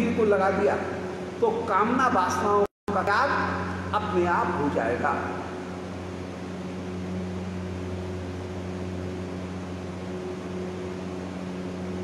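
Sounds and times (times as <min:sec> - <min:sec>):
constant hiss: 0:00.0 - 0:12.0
low electrical hum: 0:00.0 - 0:12.0.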